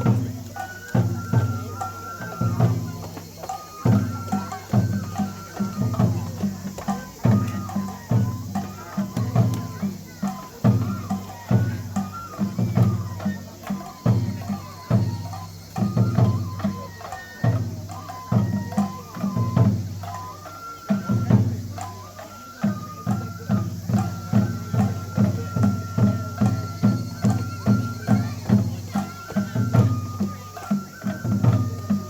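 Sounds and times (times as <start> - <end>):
bamboo flute melody: 0.0 - 32.0
taiko drum strokes: 0.0 - 32.0.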